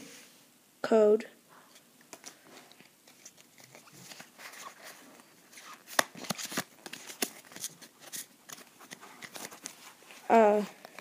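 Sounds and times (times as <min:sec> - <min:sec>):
trading cards rustling and clicking: 0:01.7 - 0:11.0.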